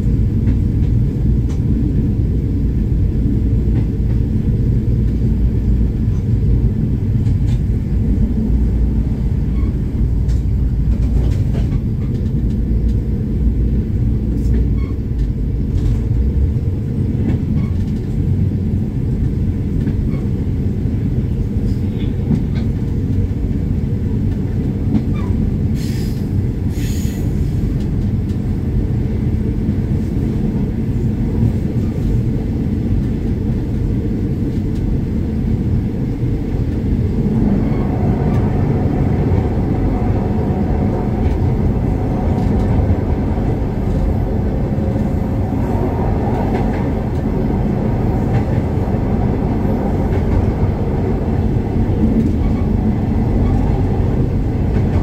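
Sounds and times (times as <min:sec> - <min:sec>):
train engine low rumble: 0:00.0 - 0:55.0.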